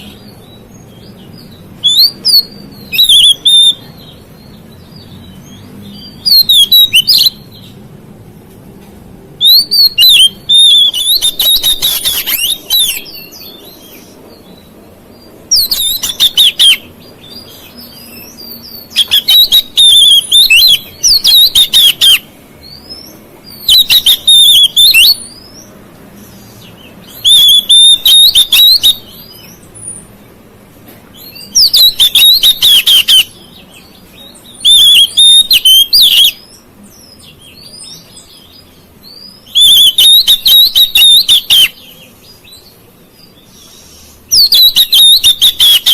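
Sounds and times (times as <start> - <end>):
bird singing high phrases: 0.0 - 7.9, 9.4 - 30.4, 31.1 - 45.9.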